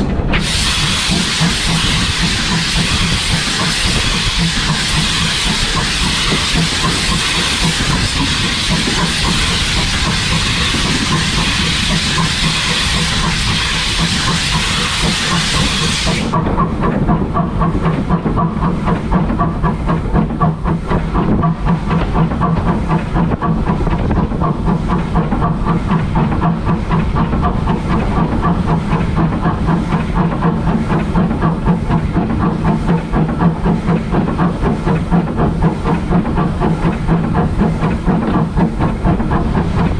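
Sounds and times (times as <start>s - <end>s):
locomotive running rhythmic beat: 0.1s - 39.9s
steam locomotive hissing: 0.2s - 39.9s.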